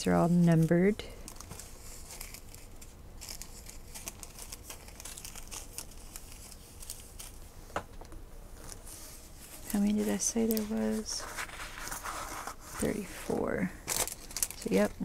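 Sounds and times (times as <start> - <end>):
plastic bags crinkling: 0.3 - 7.5, 8.6 - 15.0.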